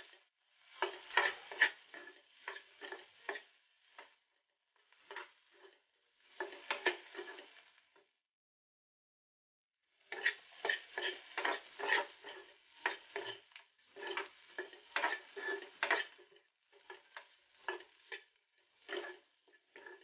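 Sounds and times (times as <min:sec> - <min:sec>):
spatula scraping and tapping a pan: 0:00.0 - 0:08.1, 0:10.0 - 0:20.0.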